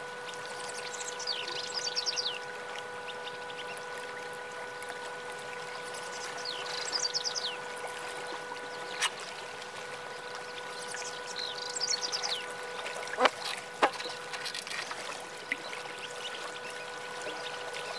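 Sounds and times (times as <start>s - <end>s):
steady hum: 0.0s - 17.9s.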